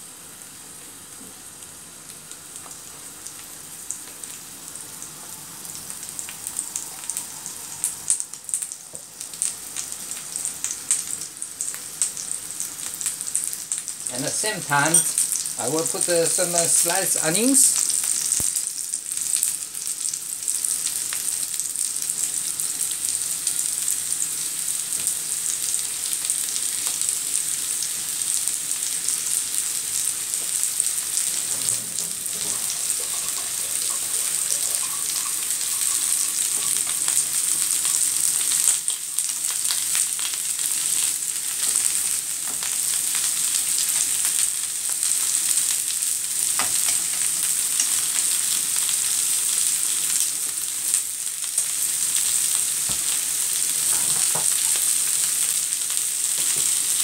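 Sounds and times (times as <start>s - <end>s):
potatoes sizzling in a frying pan: 0.0s - 57.0s.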